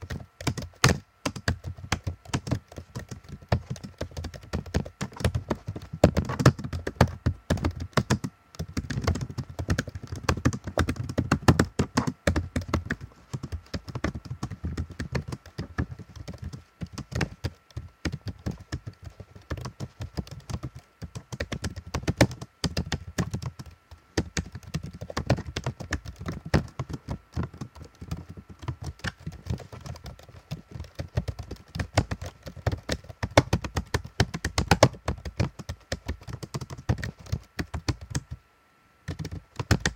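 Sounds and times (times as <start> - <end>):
computer keyboard typing: 0.0 - 38.4, 39.1 - 39.9.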